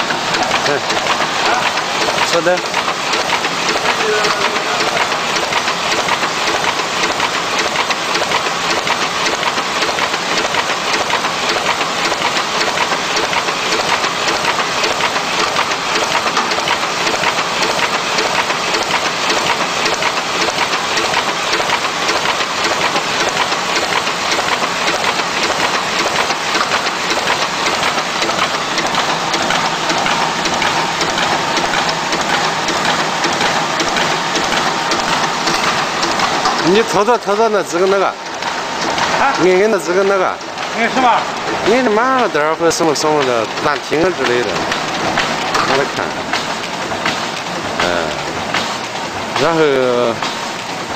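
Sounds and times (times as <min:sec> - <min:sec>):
printing press clattering: 0:00.0 - 0:50.9.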